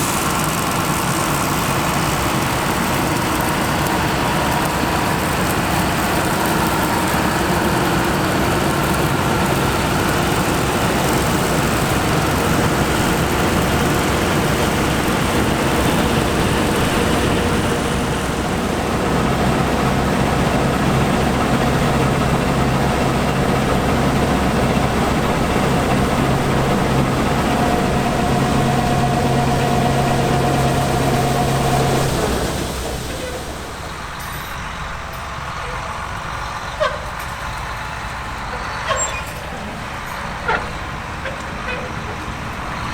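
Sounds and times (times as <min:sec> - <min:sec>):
diesel machinery running: 0:00.0 - 0:42.9.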